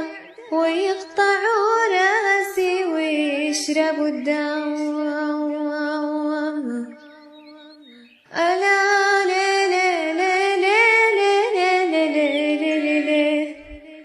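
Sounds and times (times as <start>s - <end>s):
woman singing folk chant: 0.0s - 14.0s.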